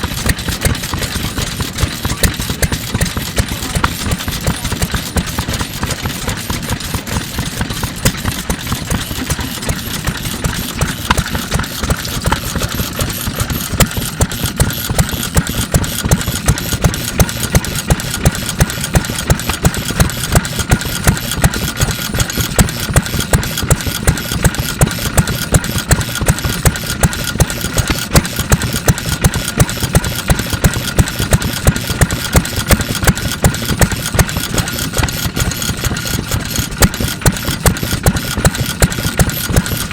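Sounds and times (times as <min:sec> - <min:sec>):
stationary oil engine running: 0:00.0 - 0:39.9.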